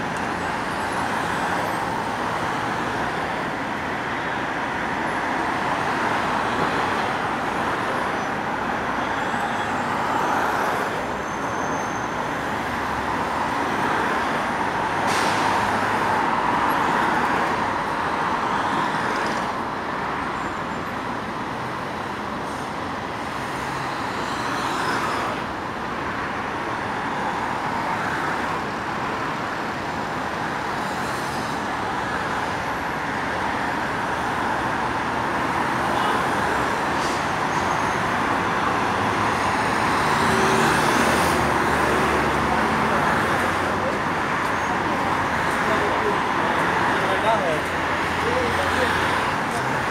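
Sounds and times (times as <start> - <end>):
road traffic noise: 0.0 - 49.9.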